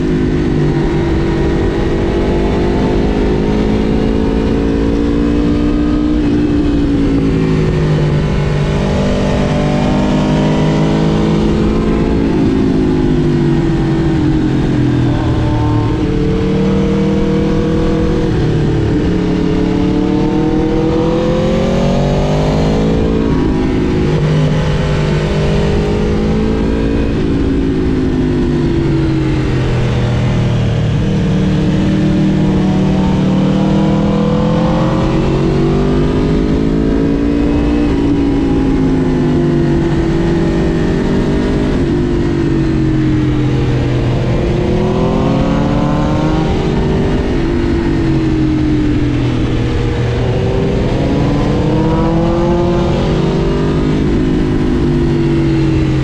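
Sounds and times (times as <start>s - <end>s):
heavy wind rush: 0.0s - 56.0s
motorcycle engine revving through gears: 0.0s - 56.0s.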